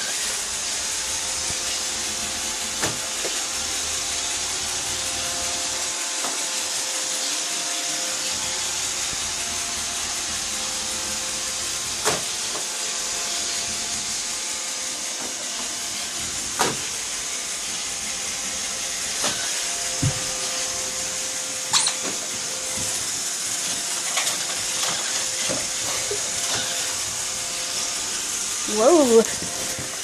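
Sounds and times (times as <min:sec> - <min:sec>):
robot vacuum whirring: 0:00.0 - 0:30.0.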